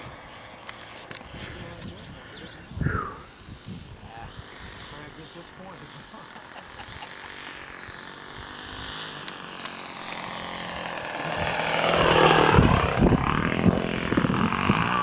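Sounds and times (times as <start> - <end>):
model airplane motor buzzing: 0.0 - 15.0.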